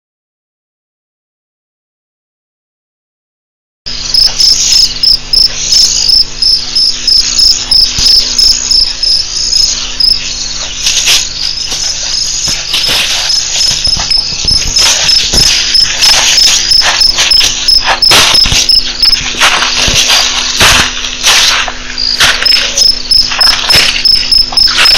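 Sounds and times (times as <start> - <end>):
cricket chirping: 3.9 - 24.9.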